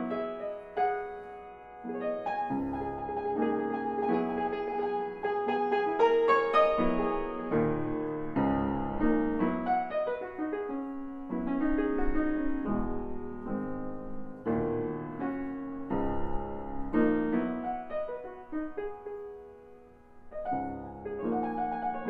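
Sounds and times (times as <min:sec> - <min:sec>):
grand piano playing chords: 0:00.0 - 0:22.0.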